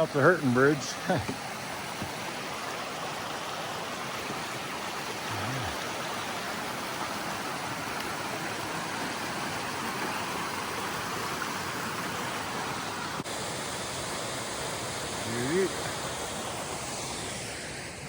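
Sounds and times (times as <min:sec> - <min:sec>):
fast creek and waterfall rushing: 0:00.0 - 0:18.0.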